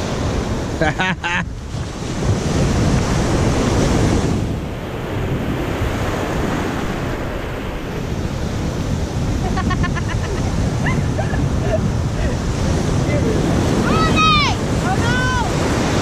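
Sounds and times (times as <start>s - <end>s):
ocean surf breaking: 0.0s - 16.0s
wind rumbling on microphone: 0.0s - 16.0s.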